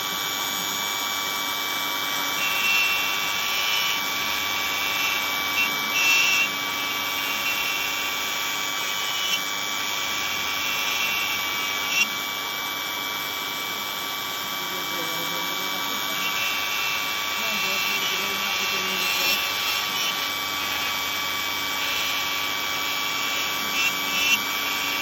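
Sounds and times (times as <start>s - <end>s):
cnc router spindle whining: 0.0s - 25.0s.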